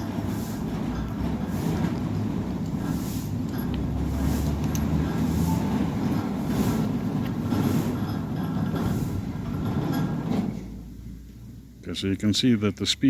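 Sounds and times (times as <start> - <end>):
sliding gate rumbling on rail: 0.0 - 11.7.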